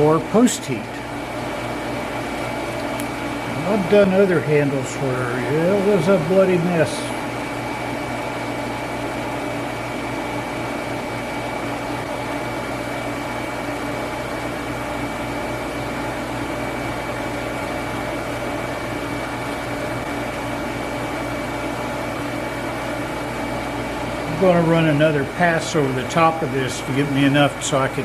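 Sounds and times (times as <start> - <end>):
machine hum and hiss: 0.0 - 28.0.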